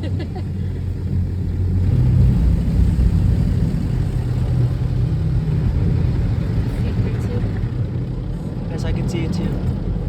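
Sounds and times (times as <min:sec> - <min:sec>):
car wash machinery rumble: 0:00.0 - 0:10.0.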